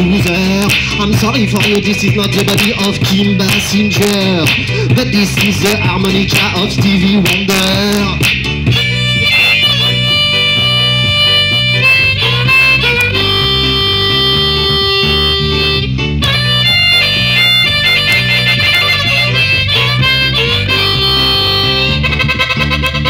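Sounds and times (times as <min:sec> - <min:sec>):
bass: 0:00.0 - 0:23.0
guitar: 0:00.0 - 0:23.0
harmonica melody: 0:00.0 - 0:23.0.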